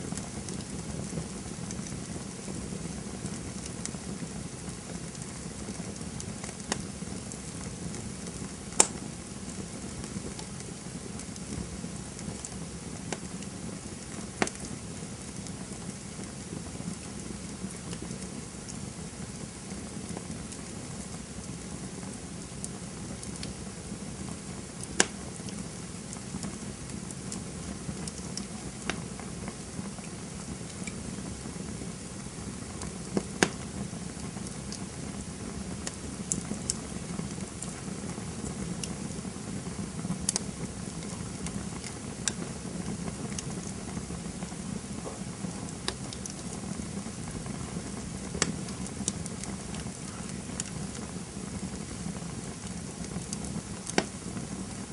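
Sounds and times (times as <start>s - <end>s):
burning wood crackling and popping: 0.0s - 54.9s
campfire flames rushing: 0.0s - 54.9s.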